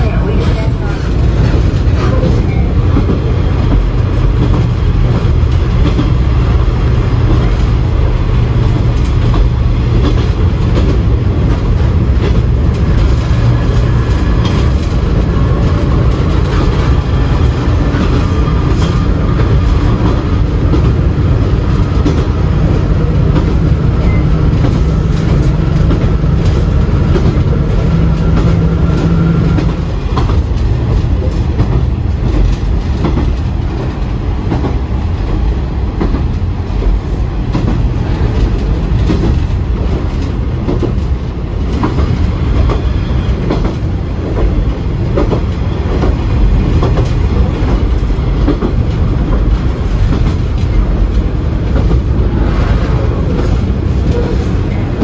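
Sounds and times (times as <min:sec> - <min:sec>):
train rumbling on rails: 0:00.0 - 0:55.0
wheels clicking over rail joints: 0:00.0 - 0:55.0.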